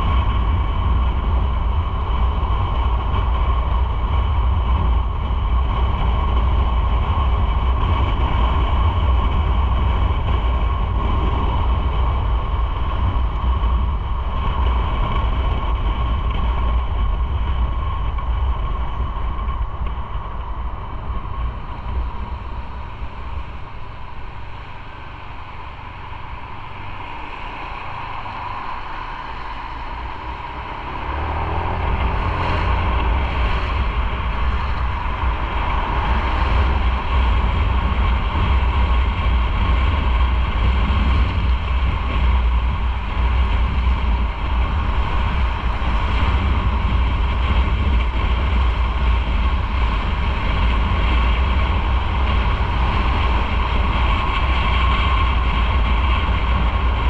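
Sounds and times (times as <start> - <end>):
motorcycle engine rumble: 0.0 - 57.0
wind rush on microphone: 0.0 - 57.0.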